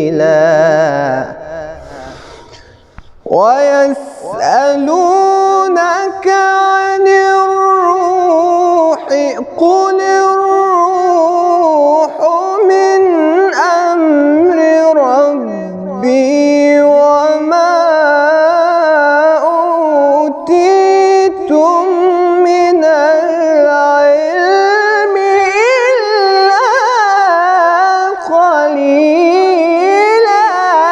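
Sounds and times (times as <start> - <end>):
man chanting melodically: 0.0 - 30.9.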